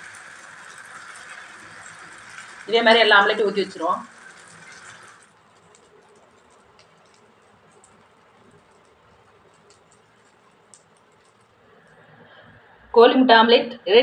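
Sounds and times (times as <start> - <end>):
omelette sizzling with pops: 0.0 - 12.8.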